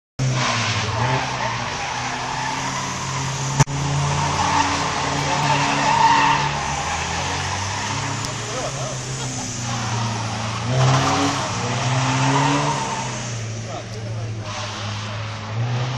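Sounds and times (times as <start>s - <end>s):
car engine under throttle: 0.2s - 15.9s
tyres skidding on tarmac: 0.2s - 15.9s.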